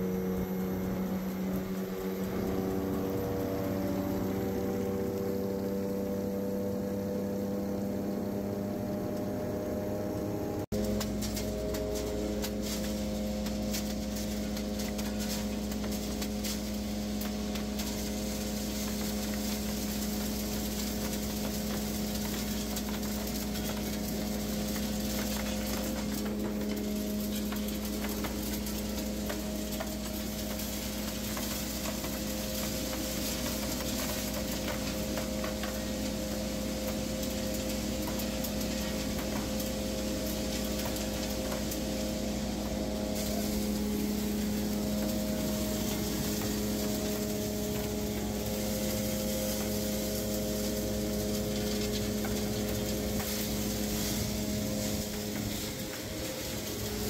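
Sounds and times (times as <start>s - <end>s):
motor hum with high tones: 0.0s - 57.0s
gritty hiss of ore and water: 10.7s - 57.0s.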